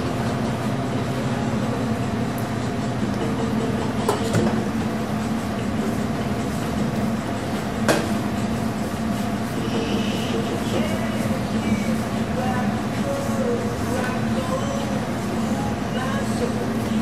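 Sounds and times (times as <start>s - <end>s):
mechanical hum and rumble: 0.0s - 17.0s.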